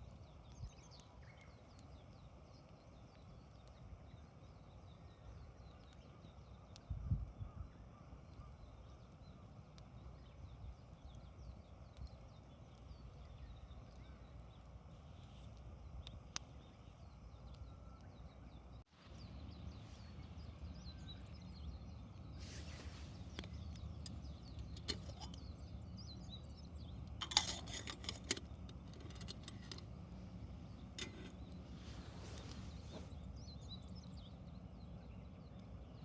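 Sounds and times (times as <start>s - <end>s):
campfire crackling: 0.0s - 36.0s.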